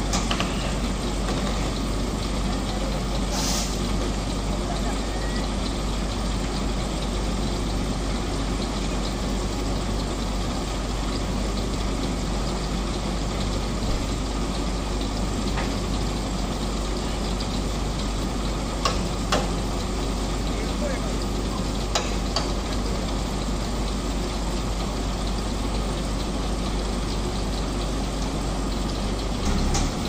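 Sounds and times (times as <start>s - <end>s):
heavy vehicle engines idling: 0.0s - 30.0s.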